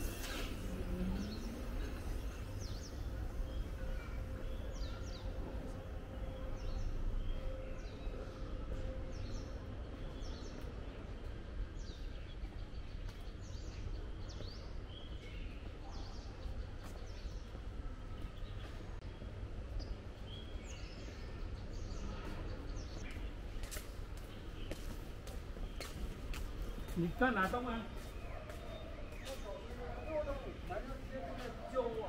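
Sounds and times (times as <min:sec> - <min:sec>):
low outdoor rumble: 0:00.0 - 0:27.1
birds chirping: 0:00.0 - 0:32.0.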